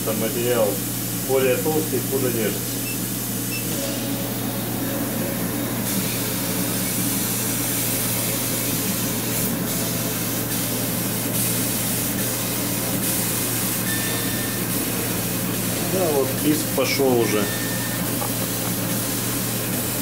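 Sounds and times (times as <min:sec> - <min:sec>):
air compressor hiss: 0:00.0 - 0:20.0
laser cutter low hum: 0:00.0 - 0:20.0.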